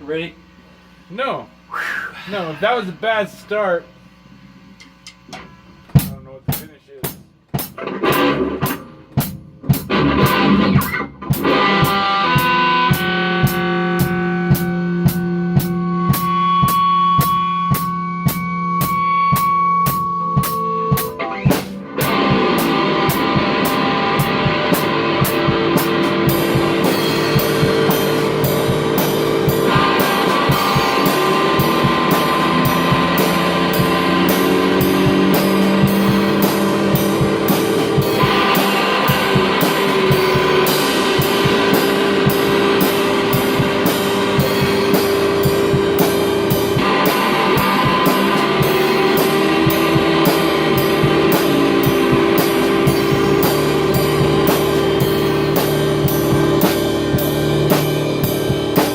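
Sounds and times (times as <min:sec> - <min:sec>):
fast drum-kit hits and cymbals: 0:05.5 - 0:58.9
heavy electric guitars: 0:07.5 - 0:58.9.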